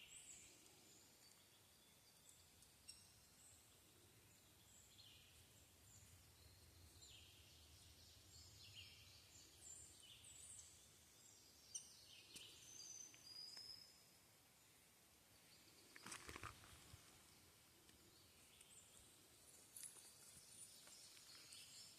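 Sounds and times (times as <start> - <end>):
faint birdsong: 0.0 - 21.9.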